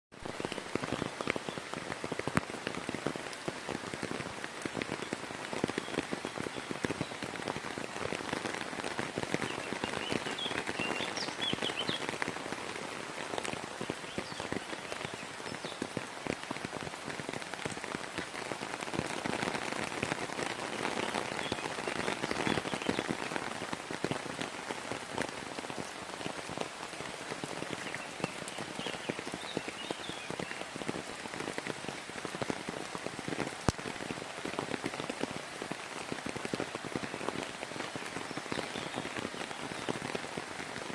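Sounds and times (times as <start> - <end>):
rain pattering on a surface: 0.1 - 40.9.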